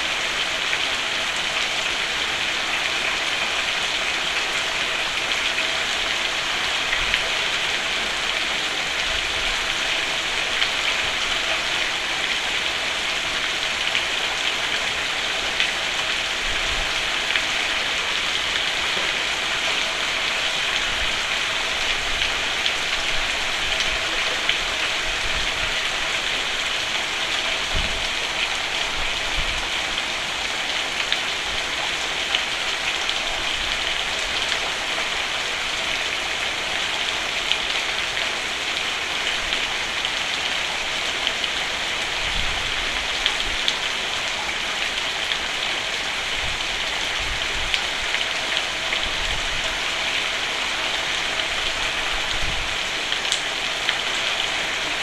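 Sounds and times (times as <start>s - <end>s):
rain on a roof: 0.0s - 55.0s.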